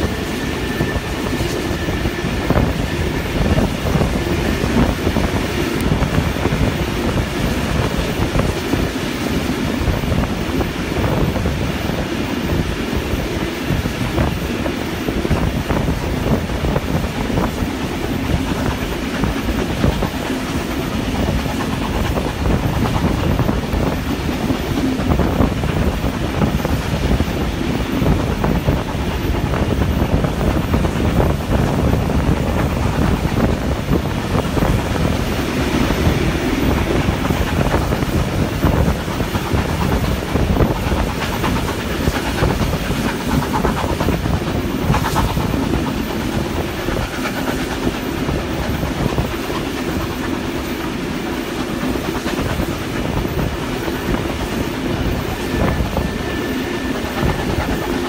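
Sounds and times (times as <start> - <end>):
train wheels rumbling and clicking: 0.0 - 58.0.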